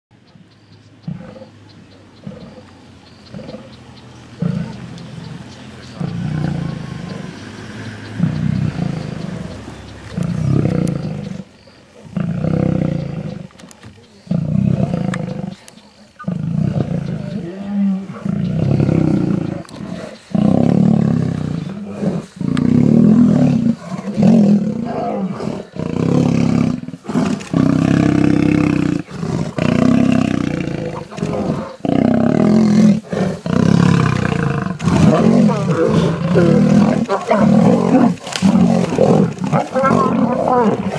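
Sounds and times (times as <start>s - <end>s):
lions roaring and snarling: 2.2s - 2.7s, 3.3s - 40.9s.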